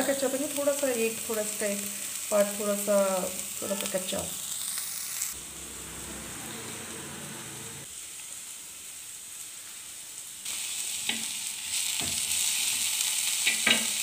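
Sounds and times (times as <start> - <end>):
vegetables sizzling in a frying pan: 0.0 - 6.4, 7.8 - 14.0.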